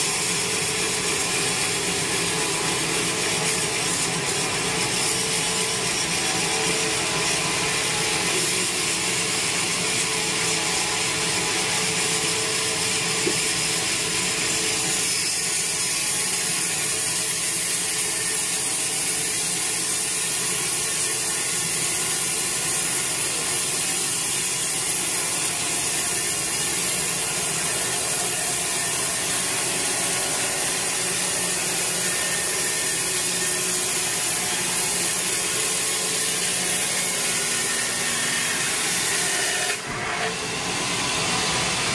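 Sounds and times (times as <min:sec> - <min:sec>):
band saw cutting log: 0:00.0 - 0:41.9.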